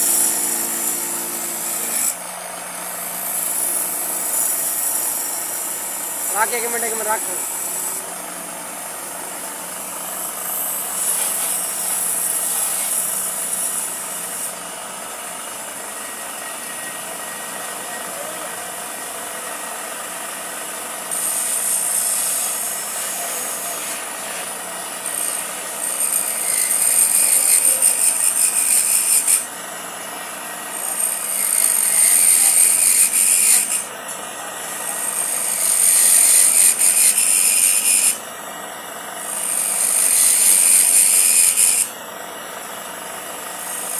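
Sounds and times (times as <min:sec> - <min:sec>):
tool rasping wood: 0:00.0 - 0:14.7, 0:20.6 - 0:43.9.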